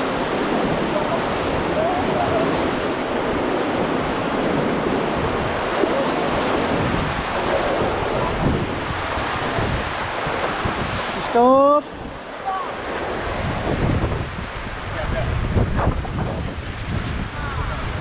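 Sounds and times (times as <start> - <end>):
river rapid rushing water: 0.0 - 18.0
wind buffeting microphone: 0.0 - 18.0.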